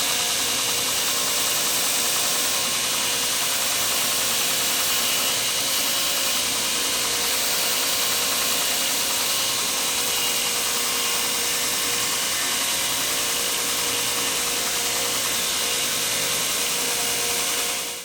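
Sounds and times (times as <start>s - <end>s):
power tool running: 0.0s - 18.0s.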